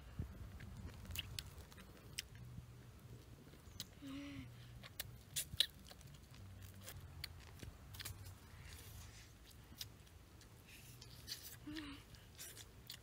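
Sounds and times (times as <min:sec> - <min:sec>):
child chewing food: 0:00.2 - 0:13.0.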